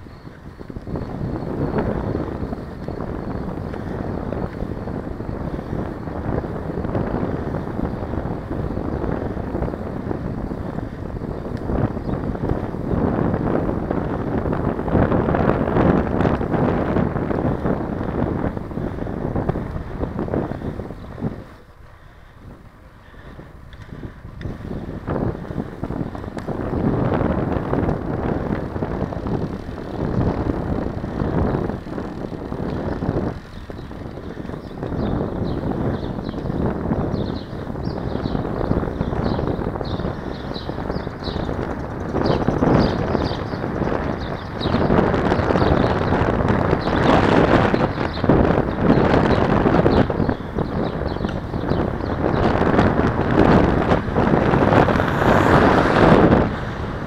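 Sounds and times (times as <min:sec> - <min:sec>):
bicycle ride rattle: 0:00.0 - 0:57.0
wind buffeting microphone: 0:00.0 - 0:57.0.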